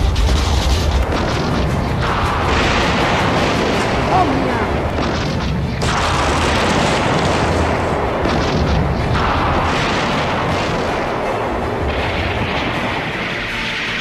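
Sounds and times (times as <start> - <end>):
artillery fire and explosions: 0.0 - 14.0.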